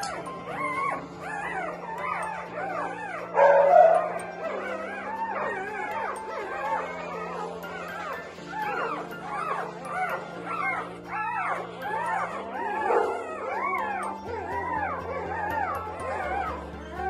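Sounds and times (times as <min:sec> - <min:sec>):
background music: 0:00.0 - 0:17.0
puppies crying: 0:00.0 - 0:17.0.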